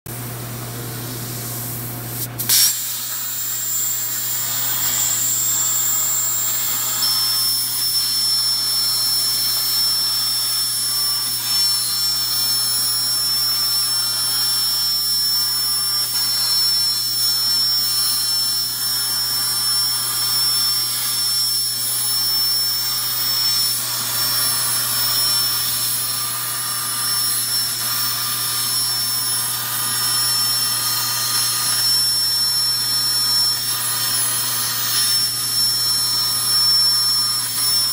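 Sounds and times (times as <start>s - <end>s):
plasma arc hissing and whining: 1.1s - 37.9s.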